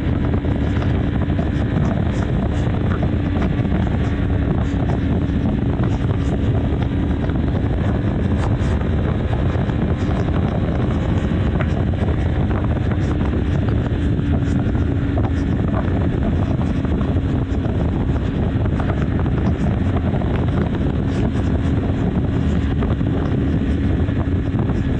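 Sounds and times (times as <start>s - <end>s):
motorcycle engine cruising: 0.0s - 24.9s
wind rushing over microphone: 0.0s - 24.9s.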